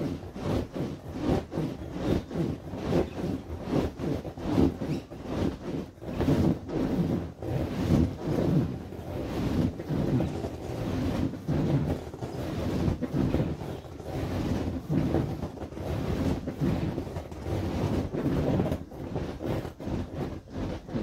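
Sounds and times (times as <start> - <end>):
inflatable vinyl rubbing and thudding: 0.0 - 21.0.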